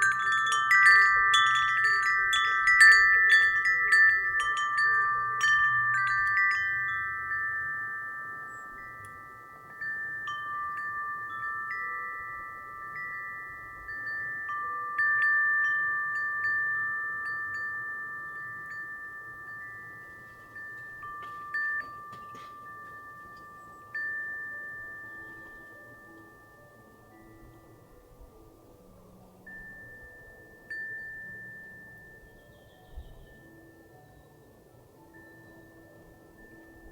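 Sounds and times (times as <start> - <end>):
wind chime ringing: 0.0 - 36.9.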